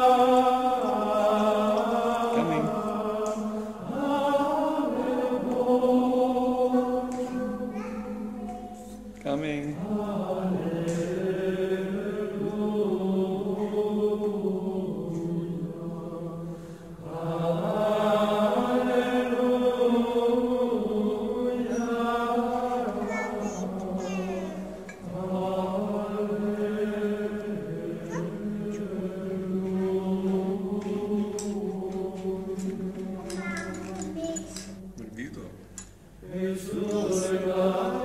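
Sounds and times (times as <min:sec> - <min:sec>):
voices chanting long notes: 0:00.0 - 0:08.8, 0:09.8 - 0:33.6, 0:36.2 - 0:38.0.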